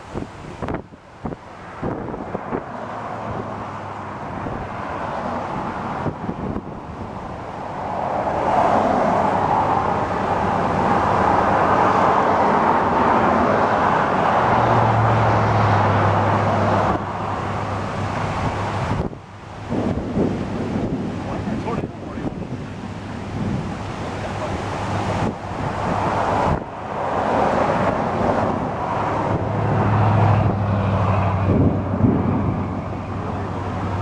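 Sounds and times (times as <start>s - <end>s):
highway traffic: 0.0s - 34.0s
passing vehicle hum: 0.0s - 34.0s
wind on microphone: 0.0s - 34.0s.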